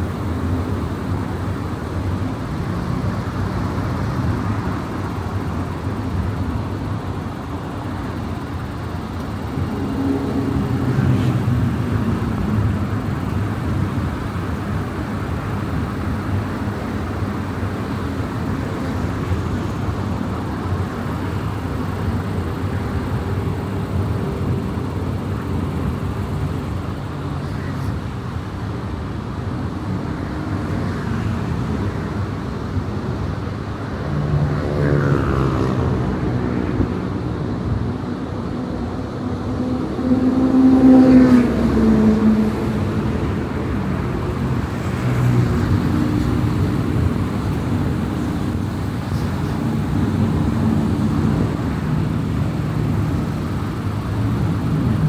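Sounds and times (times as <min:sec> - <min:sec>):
car tyre and engine noise: 0:00.0 - 0:55.0
vehicles passing by: 0:00.0 - 0:55.0.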